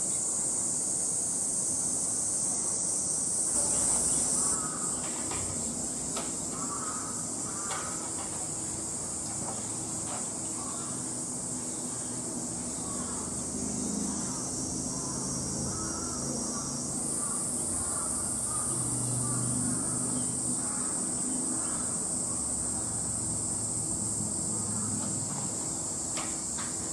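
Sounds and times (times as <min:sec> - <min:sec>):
insects droning high: 0:00.0 - 0:26.9.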